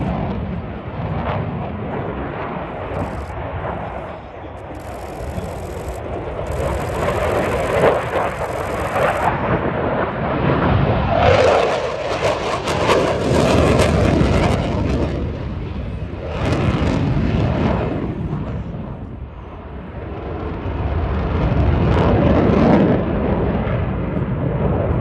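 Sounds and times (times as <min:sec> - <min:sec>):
loud jet noise with crackling: 0:00.0 - 0:25.0.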